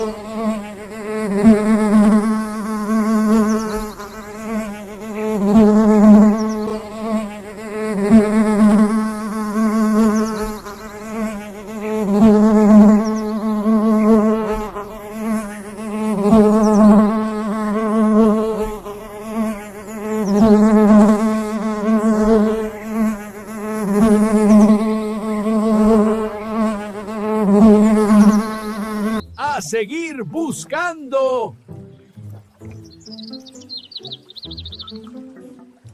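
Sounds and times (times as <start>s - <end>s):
bee buzzing in flight: 0.0s - 29.3s.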